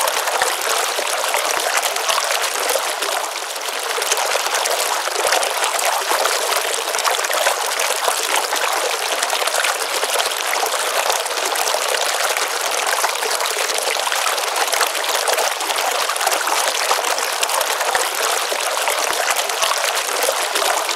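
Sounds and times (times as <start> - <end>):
water flowing in stream: 0.0 - 20.9.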